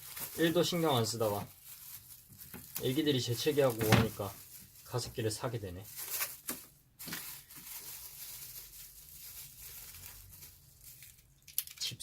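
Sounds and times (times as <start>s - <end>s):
packaging crackling and rustling: 0.0s - 11.9s.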